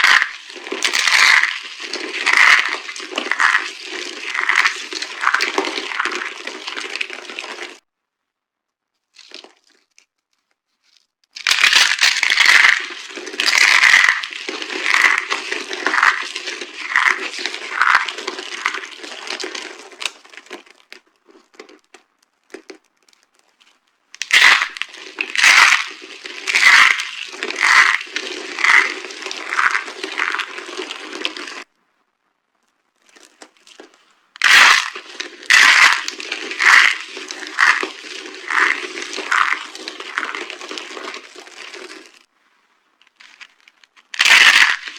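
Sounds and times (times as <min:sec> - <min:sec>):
dry soap crunching: 0:00.0 - 0:07.8, 0:09.0 - 0:31.7, 0:32.6 - 0:42.3, 0:43.0 - 0:44.9.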